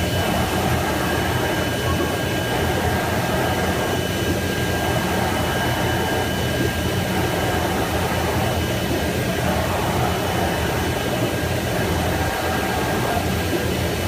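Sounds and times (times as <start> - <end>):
faint high whining tones: 0.0 - 13.6
blower hum and airy rush: 0.0 - 14.0.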